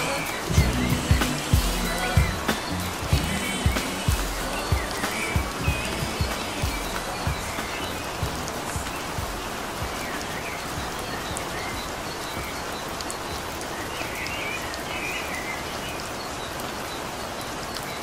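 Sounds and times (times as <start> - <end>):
birds chirping: 0.0 - 18.0
steady rain: 0.0 - 18.0.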